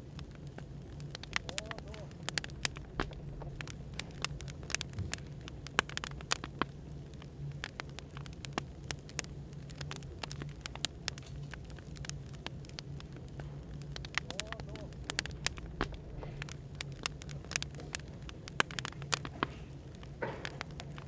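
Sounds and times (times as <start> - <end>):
low background hum: 0.0 - 21.0
wood fire crackling: 0.0 - 21.0.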